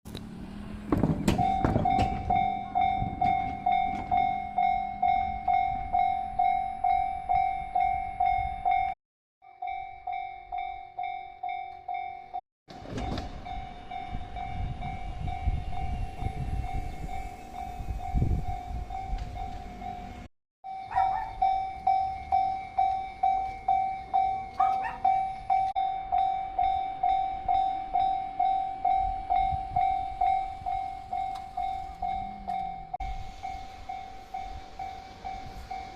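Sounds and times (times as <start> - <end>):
electric train rumbling past: 0.1 - 9.0, 9.7 - 35.9
level-crossing warning bell ringing: 1.3 - 35.9.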